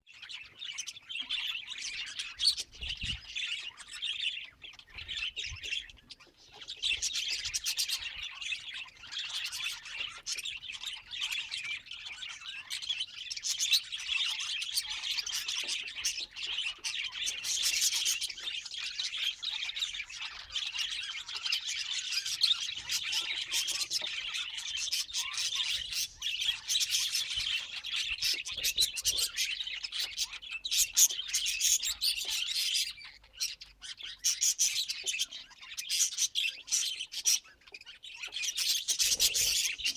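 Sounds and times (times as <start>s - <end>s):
budgies chattering and warbling: 0.1s - 39.9s.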